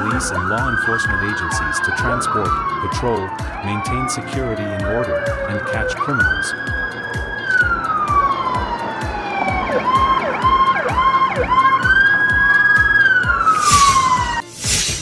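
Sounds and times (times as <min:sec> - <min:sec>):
police siren wailing: 0:00.0 - 0:14.5
steady thumping beat: 0:02.5 - 0:15.0.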